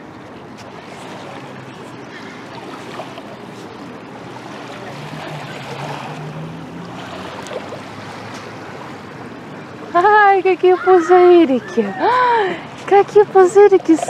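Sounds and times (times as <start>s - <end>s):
small waves lapping on shore: 0.0s - 14.0s.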